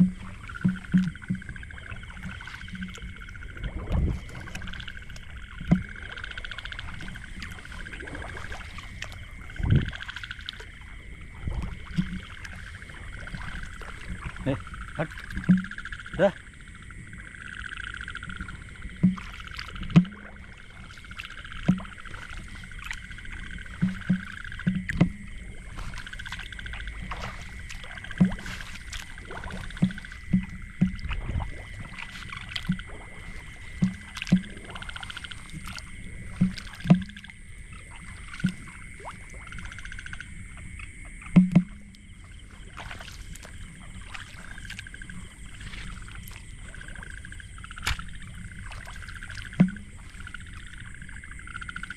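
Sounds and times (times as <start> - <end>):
frogs calling: 0.0 - 51.9
insects trilling: 0.0 - 51.9.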